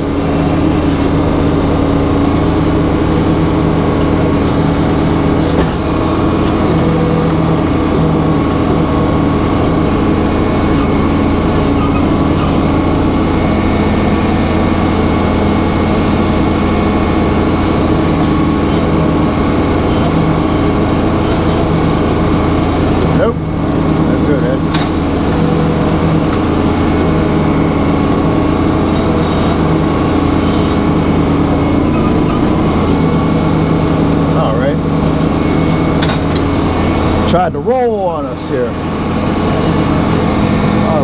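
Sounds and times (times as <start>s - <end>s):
sawmill blade and engine drone: 0.0s - 41.0s.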